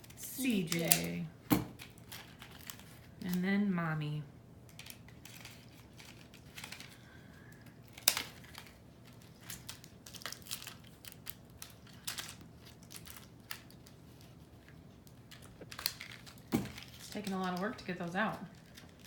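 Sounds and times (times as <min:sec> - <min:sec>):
plastic packaging crinkling: 0:01.8 - 0:03.4, 0:04.6 - 0:19.0.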